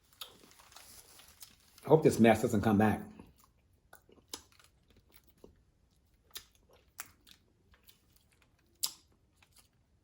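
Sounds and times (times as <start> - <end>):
chewing: 0.0 - 1.8, 3.2 - 10.0.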